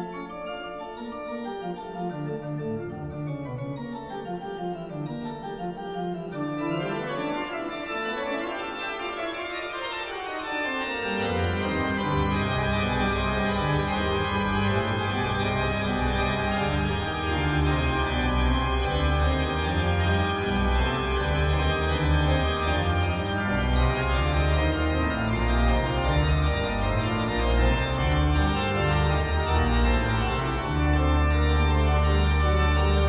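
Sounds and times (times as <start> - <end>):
sustained keyboard chords: 0.0 - 33.0.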